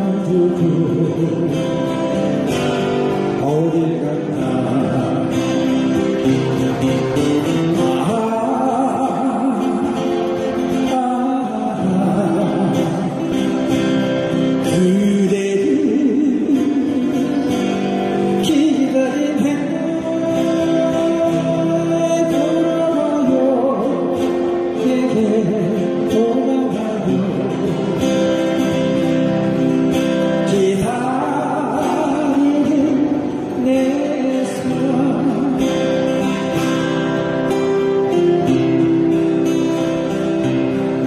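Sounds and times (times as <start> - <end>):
acoustic guitar: 0.0 - 41.0
man singing: 0.0 - 41.0.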